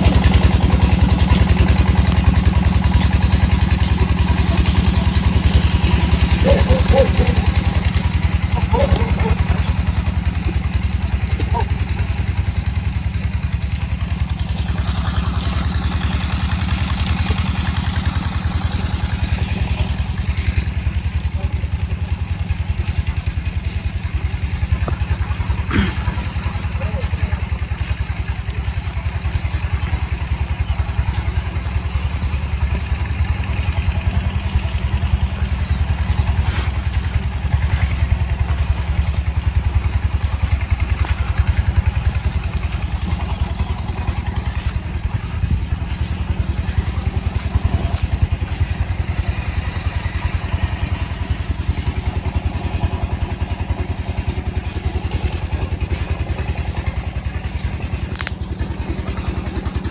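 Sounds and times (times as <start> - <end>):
engine running with thumping beat: 0.0 - 59.9.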